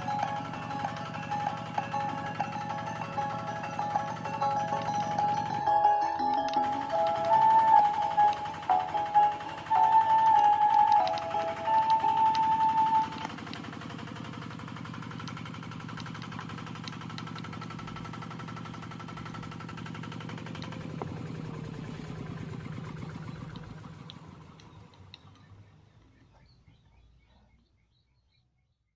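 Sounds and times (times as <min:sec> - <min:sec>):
small generator engine pulsing: 0:00.0 - 0:28.4.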